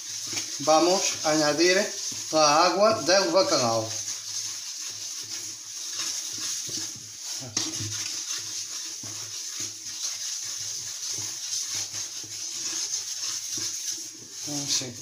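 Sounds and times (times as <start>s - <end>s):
roux sizzling in a frying pan: 0.0s - 15.0s
spatula scraping a pan: 0.0s - 15.0s.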